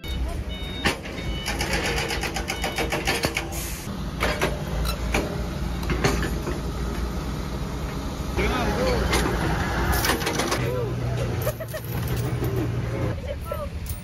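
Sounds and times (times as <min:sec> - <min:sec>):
engine low rumble: 0:00.0 - 0:14.0.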